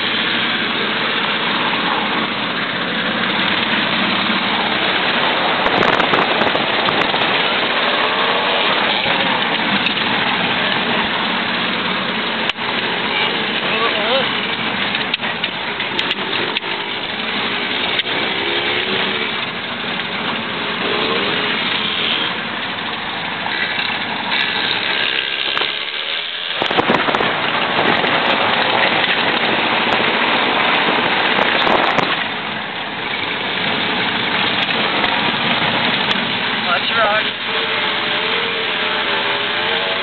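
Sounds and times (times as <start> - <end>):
car driving on dirt road: 0.0 - 40.0.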